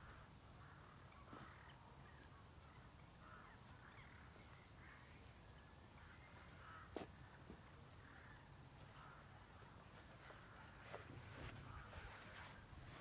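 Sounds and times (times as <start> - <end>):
crows cawing faintly: 0.0 - 13.0.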